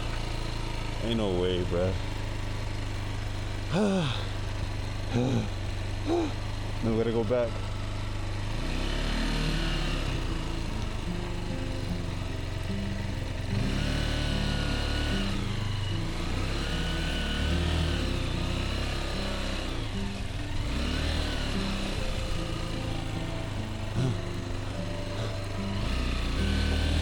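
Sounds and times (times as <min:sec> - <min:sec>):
motorbike engine revving: 0:00.0 - 0:27.0.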